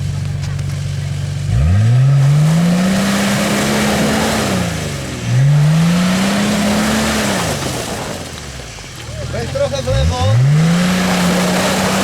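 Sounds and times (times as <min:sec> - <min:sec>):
engine revving: 0:00.0 - 0:12.0
wheels digging in mud: 0:00.0 - 0:12.0.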